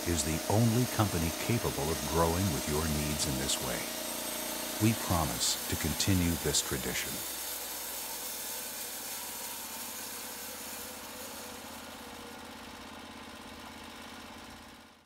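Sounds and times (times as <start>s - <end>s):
small engine running steadily: 0.0s - 15.0s.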